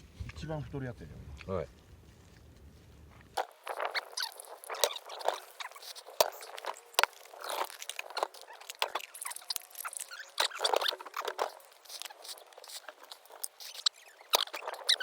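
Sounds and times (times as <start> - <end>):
wood fire crackling: 1.8 - 15.0.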